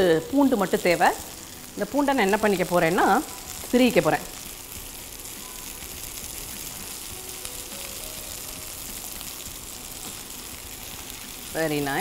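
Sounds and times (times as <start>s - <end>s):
chicken sizzling on a griddle: 0.0s - 12.0s.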